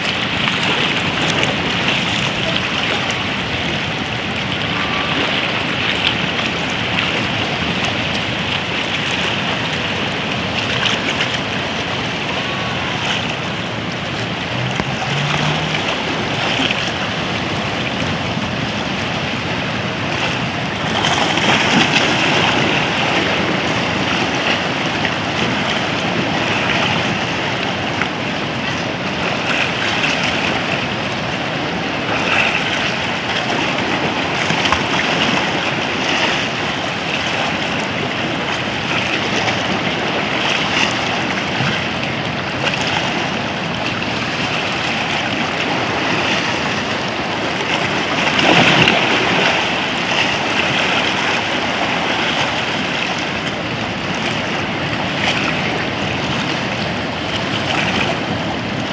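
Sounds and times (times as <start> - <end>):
surf breaking: 0.0 - 58.9
waves splashing around rocks: 0.0 - 58.9.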